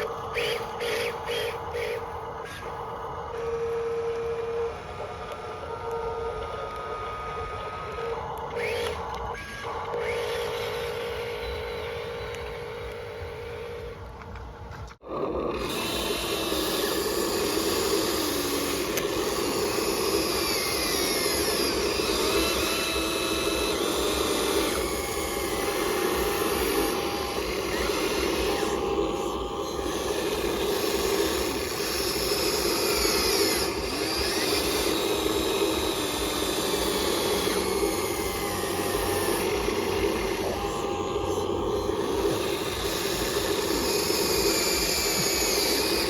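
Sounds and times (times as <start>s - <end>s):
small electric motors whining: 0.0s - 46.0s.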